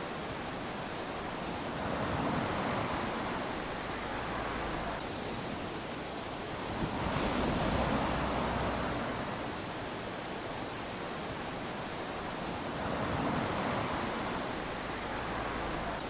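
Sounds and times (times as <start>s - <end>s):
small waves washing on sand: 0.0s - 16.0s.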